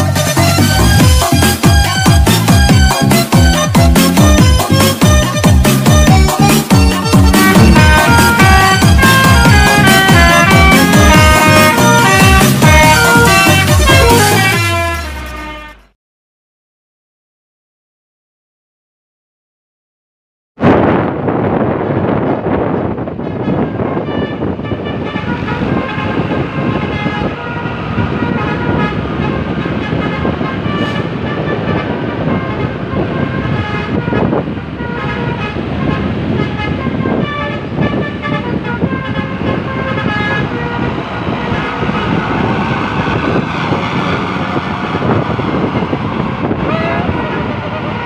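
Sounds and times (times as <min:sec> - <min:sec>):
traffic noise: 0:00.0 - 0:15.7, 0:21.0 - 0:48.0
engine noise: 0:00.0 - 0:15.9, 0:25.0 - 0:48.0
bus horn playing a melody: 0:00.1 - 0:16.0, 0:23.2 - 0:48.0.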